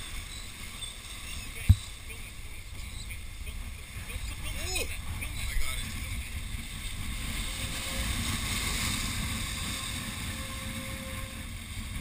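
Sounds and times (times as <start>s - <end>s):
waves breaking against rocks: 0.0s - 12.0s
wind buffeting microphone: 0.0s - 12.0s.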